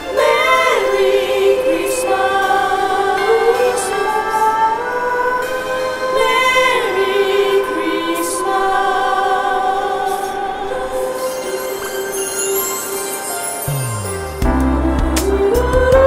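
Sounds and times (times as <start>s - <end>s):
choir singing slow chords: 0.0s - 16.0s.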